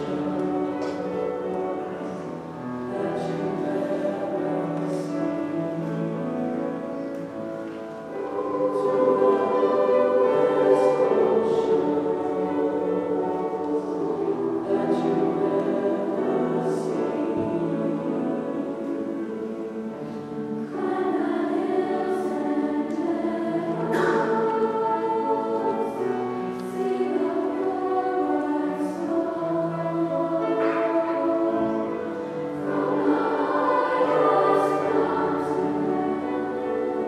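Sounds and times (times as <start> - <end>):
choir singing: 0.0 - 37.0.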